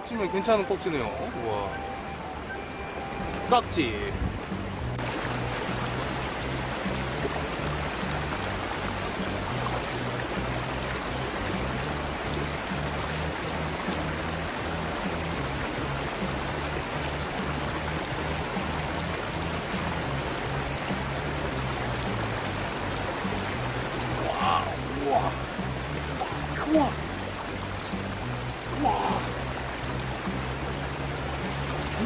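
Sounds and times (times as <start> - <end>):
river water rushing over rocks: 0.0 - 32.0
background music with bass line: 2.8 - 32.0.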